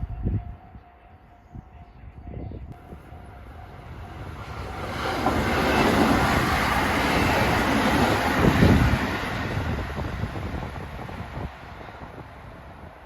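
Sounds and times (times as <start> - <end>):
train passing with rail noise: 0.0 - 13.0.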